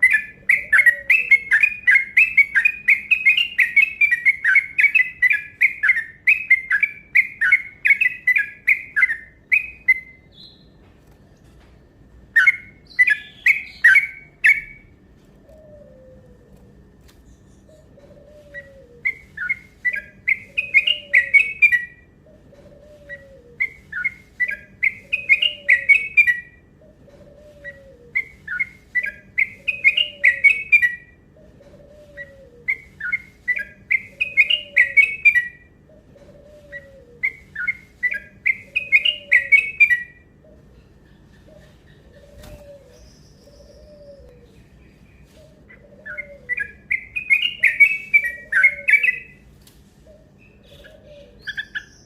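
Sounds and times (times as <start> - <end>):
bird song of rapid chirping notes: 0.0 - 11.6, 12.2 - 52.0.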